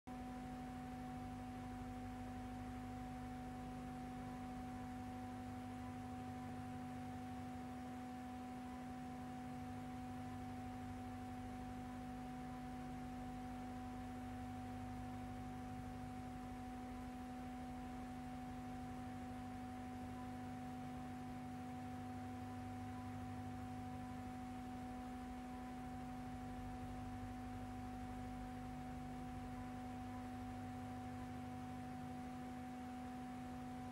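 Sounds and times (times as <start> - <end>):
steady electrical hum: 0.1 - 33.9.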